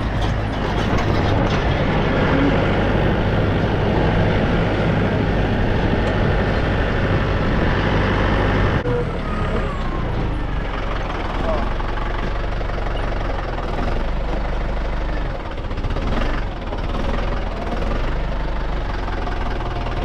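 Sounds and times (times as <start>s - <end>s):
tractor engine clattering: 0.0s - 20.0s.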